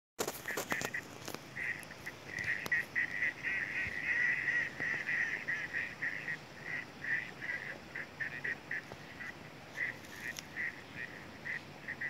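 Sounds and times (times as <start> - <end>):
waterfowl calling: 0.2 - 12.0.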